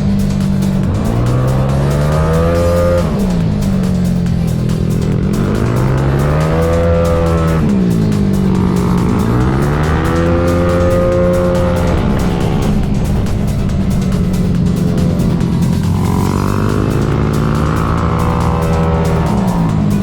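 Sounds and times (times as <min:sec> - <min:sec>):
background music: 0:00.0 - 0:20.0
scooter engine accelerating: 0:00.0 - 0:20.0.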